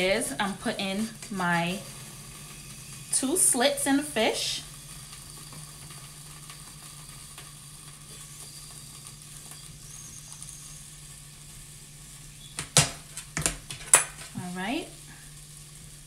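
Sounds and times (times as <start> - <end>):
stove burner hum and hiss: 0.0 - 16.0.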